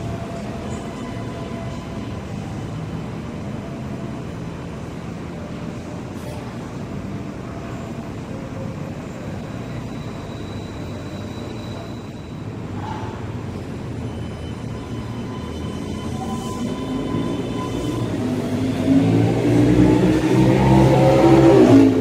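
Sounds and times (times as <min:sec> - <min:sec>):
light-rail train rumble: 0:00.0 - 0:22.0.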